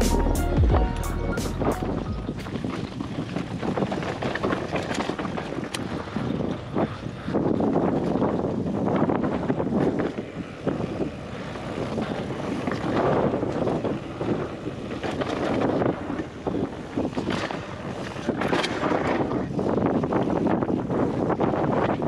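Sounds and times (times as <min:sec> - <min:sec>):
wind buffeting microphone: 0:00.7 - 0:22.0
bike rattling: 0:00.9 - 0:22.0.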